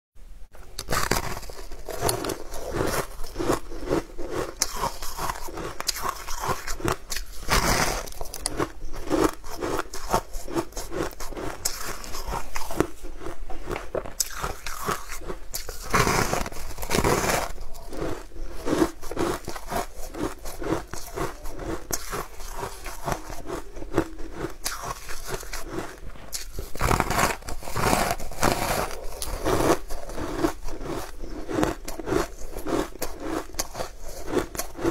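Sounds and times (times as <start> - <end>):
crunchy pastry chewing: 0.8 - 34.9.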